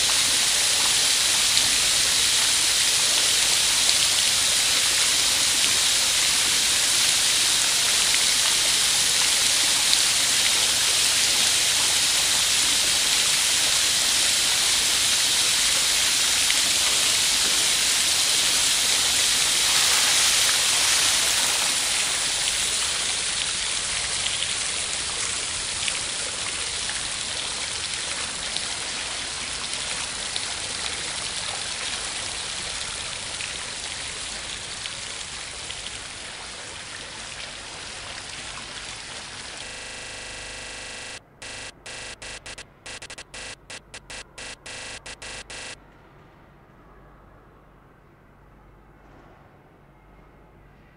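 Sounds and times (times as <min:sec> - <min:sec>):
fountain water splashing: 0:00.0 - 0:45.8.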